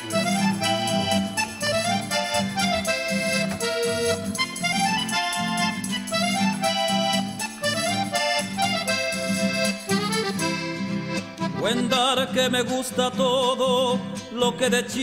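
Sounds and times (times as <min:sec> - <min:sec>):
folk instrumental music with beat: 0:00.0 - 0:15.0.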